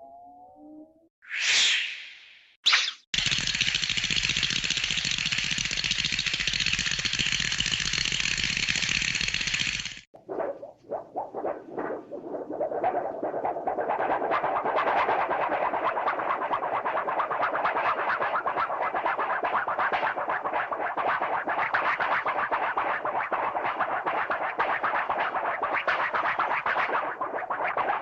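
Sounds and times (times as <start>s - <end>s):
rapid scratchy cartoon flutter: 2.7s - 28.0s.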